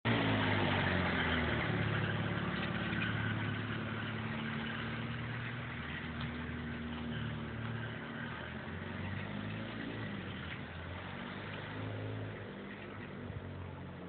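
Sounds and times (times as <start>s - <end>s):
van engine pulling away: 0.0s - 14.0s.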